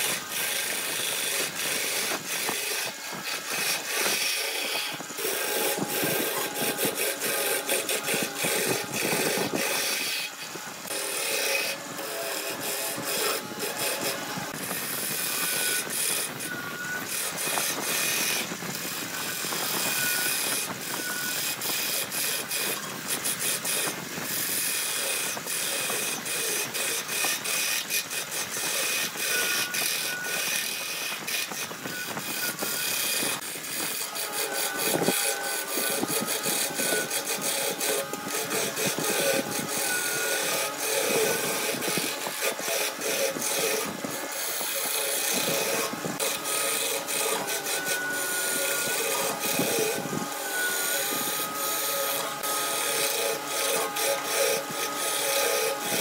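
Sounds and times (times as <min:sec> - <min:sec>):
wood lathe scraping: 0:00.0 - 0:56.0.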